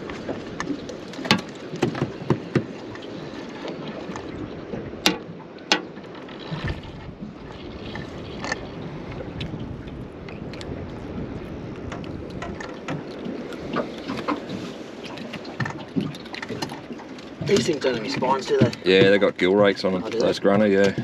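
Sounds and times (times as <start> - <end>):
knocks and clicks in a boat: 0.0 - 21.0
wind and water hiss: 0.0 - 21.0.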